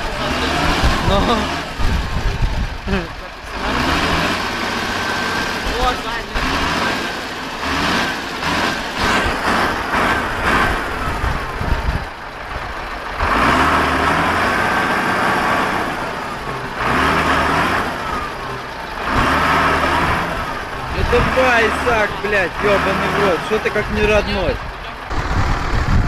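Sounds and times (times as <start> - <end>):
engine revving hard: 0.0 - 12.1, 13.1 - 26.0.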